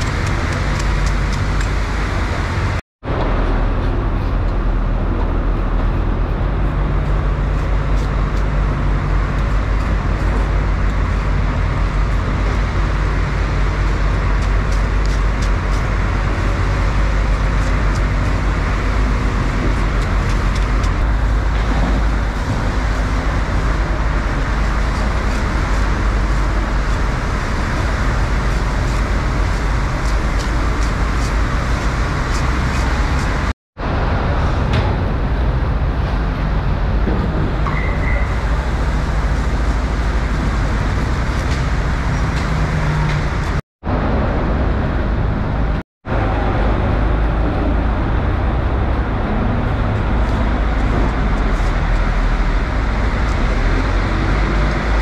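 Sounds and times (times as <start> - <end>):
low motor-like rumble: 0.0 - 55.0.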